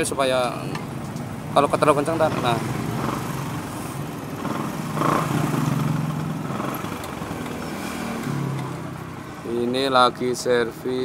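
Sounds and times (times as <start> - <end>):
motorcycle engine humming: 0.0 - 11.0.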